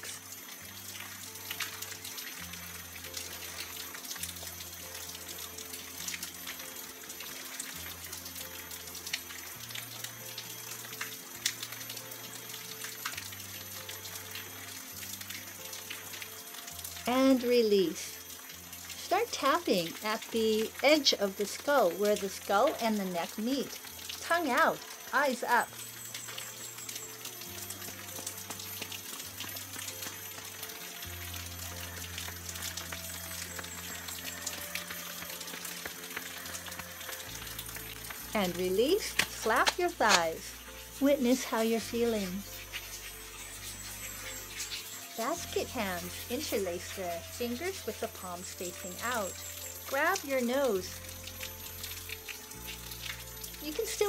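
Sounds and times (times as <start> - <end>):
soft music of low notes: 0.0 - 54.0
water splashing onto stone: 0.0 - 54.0.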